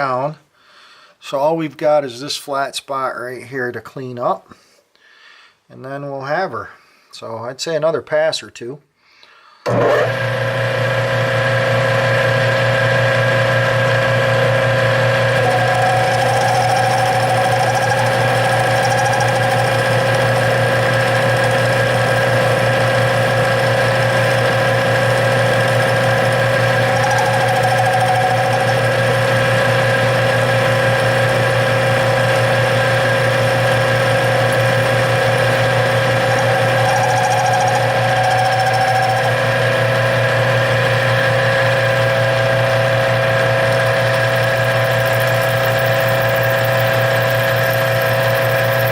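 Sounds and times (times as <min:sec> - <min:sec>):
metal lathe cutting: 0:09.7 - 0:48.9.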